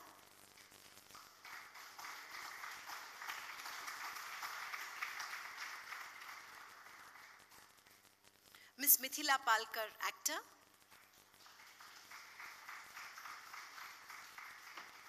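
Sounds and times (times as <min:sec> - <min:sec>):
audience applauding: 0:00.0 - 0:08.1, 0:10.9 - 0:15.0.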